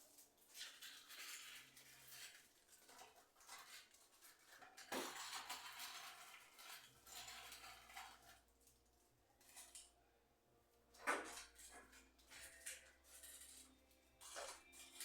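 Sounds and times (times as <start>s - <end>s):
clatter of household items: 0.0s - 10.0s, 10.9s - 15.0s.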